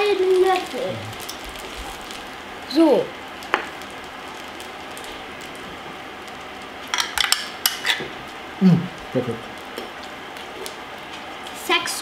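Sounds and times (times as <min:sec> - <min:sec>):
noodles sizzling in butter: 0:00.0 - 0:12.0.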